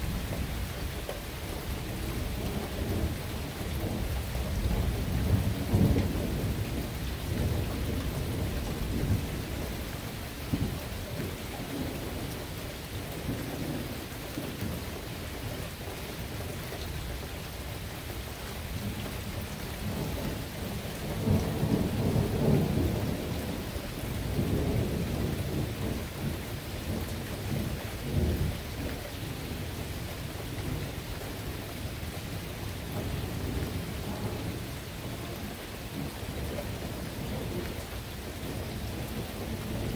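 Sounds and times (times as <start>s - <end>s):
steady rain falling: 0.0s - 39.9s
low rolling thunder: 1.6s - 14.8s, 18.7s - 39.9s.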